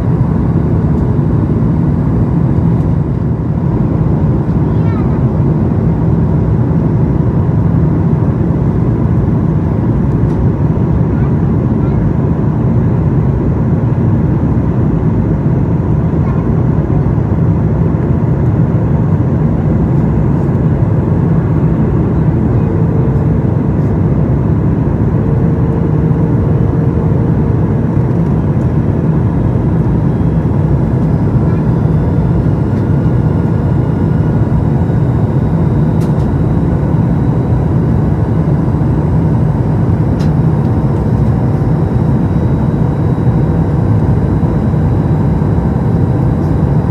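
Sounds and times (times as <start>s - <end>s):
airliner cabin rumble: 0.0s - 46.9s
faint steady hums: 0.0s - 46.9s.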